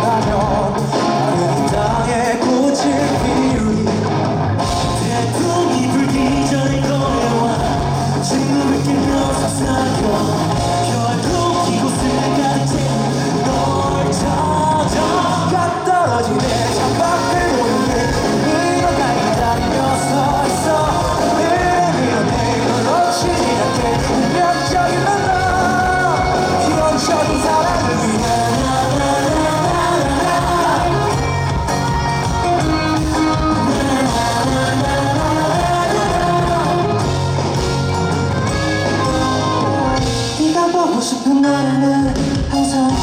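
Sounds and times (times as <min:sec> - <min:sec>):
person singing: 0:00.0 - 0:43.0
rock band playing live: 0:00.0 - 0:43.0.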